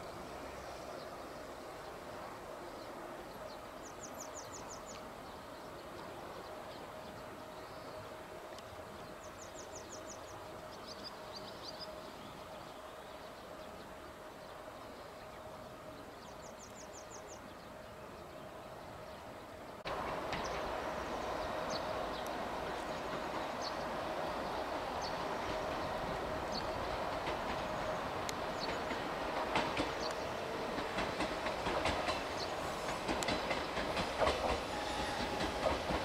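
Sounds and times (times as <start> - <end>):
train hum and rumble: 0.0 - 36.0.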